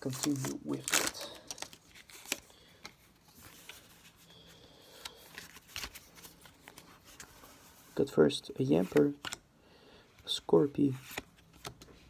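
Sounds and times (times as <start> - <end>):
cards sliding and rustling: 0.0 - 9.4, 10.2 - 12.0.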